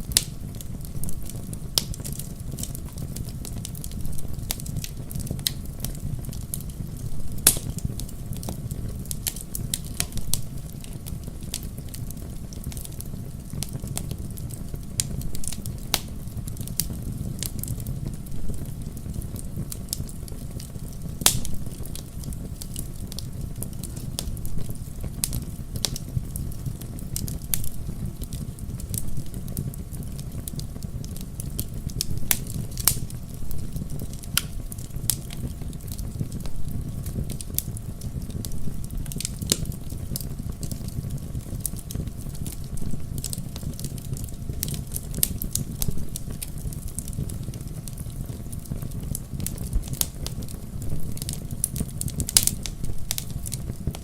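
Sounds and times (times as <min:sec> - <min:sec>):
sharp pops of fire: 0:00.0 - 0:54.0
wood fire crackling: 0:00.0 - 0:54.0.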